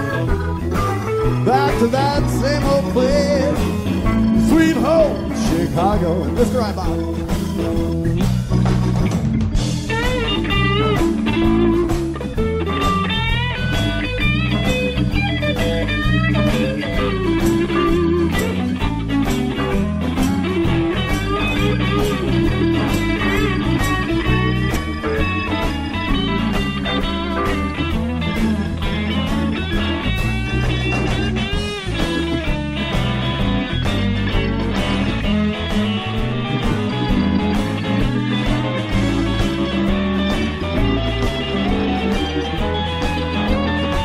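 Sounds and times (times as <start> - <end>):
electric blues band playing: 0.0 - 44.0
lead guitar bending notes: 0.0 - 44.0.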